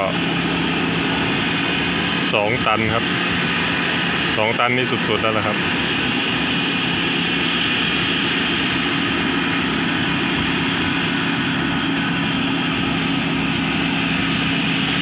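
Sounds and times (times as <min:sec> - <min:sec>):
combine harvester engine running: 0:00.0 - 0:15.0
machinery noise: 0:00.0 - 0:15.0.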